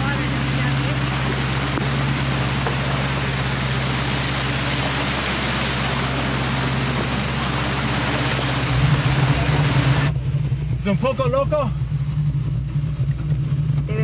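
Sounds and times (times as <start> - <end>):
rushing floodwater: 0.0 - 11.9
car engine humming: 0.0 - 14.0.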